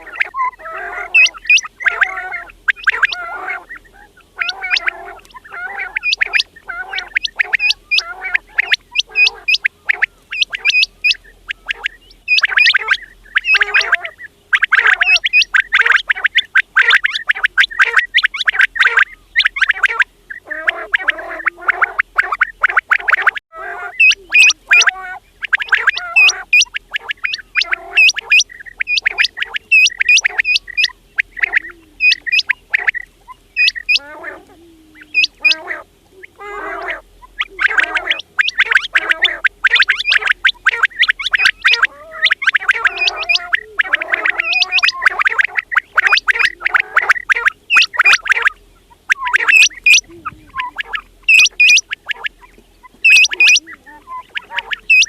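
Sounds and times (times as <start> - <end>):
quails calling: 0.0 - 55.0.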